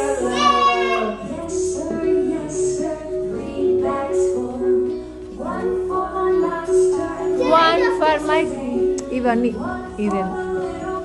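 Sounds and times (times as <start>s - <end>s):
children singing: 0.0s - 9.0s.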